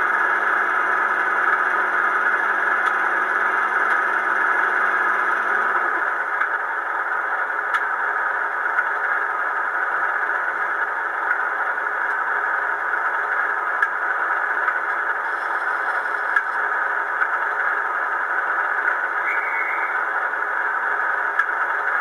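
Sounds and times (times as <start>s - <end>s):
diesel engine idling from loudspeaker: 0.0s - 22.0s.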